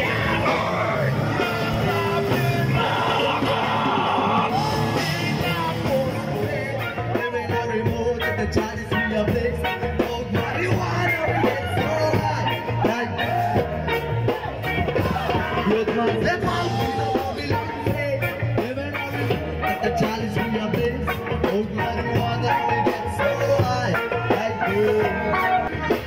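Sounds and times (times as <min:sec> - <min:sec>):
drum kit beat: 0:00.0 - 0:26.0
electric guitars: 0:00.0 - 0:26.0
person singing: 0:00.0 - 0:26.0.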